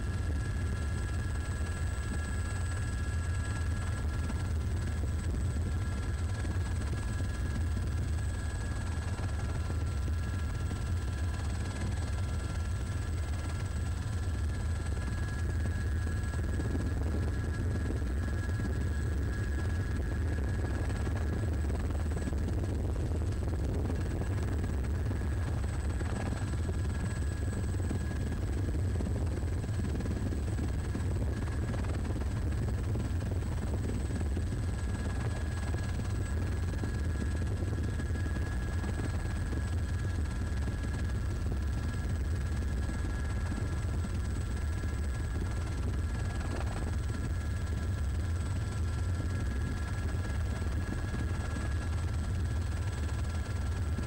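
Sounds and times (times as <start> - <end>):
faint thin whining tones: 0.0 - 54.0
helicopter engine and rotor drone: 0.0 - 54.0.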